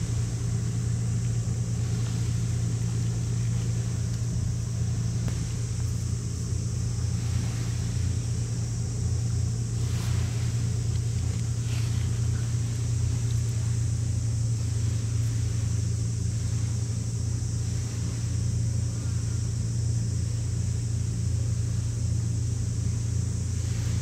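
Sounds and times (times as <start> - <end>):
ship engines rumbling: 0.0 - 24.0.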